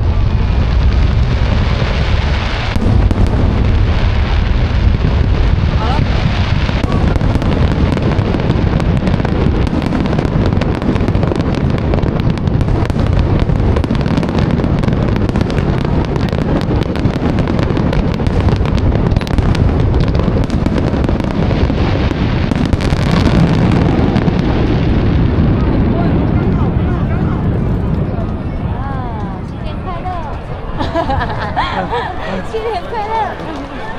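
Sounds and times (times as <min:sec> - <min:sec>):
low rumble: 0:00.0 - 0:32.2
fireworks bangs and crackles: 0:00.0 - 0:33.9.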